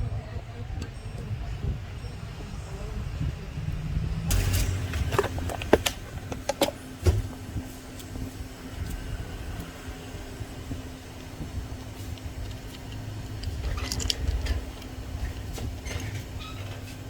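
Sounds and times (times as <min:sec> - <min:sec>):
faint steady hum: 0:00.0 - 0:17.0
low background rumble: 0:00.0 - 0:17.0.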